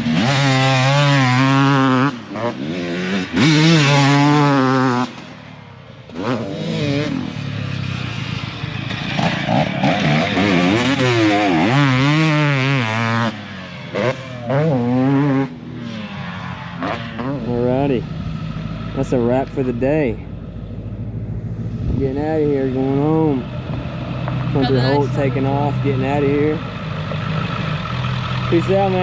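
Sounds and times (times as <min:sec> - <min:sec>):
dirt bike engine revving: 0:00.0 - 0:20.3, 0:21.9 - 0:29.0.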